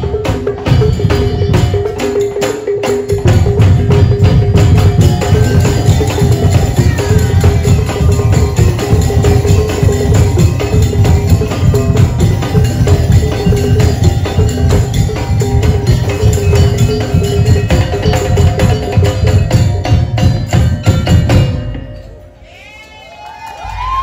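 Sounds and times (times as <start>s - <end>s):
heavy drums: 0.0s - 22.4s
percussion ensemble playing: 0.0s - 24.0s.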